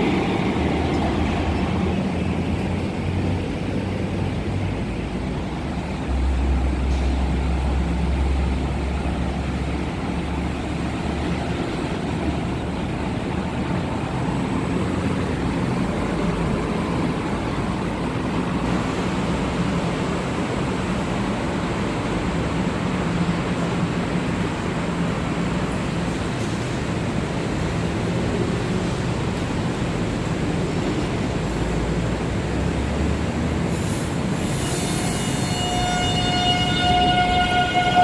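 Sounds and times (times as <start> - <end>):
electric train rumbling: 0.0 - 38.0.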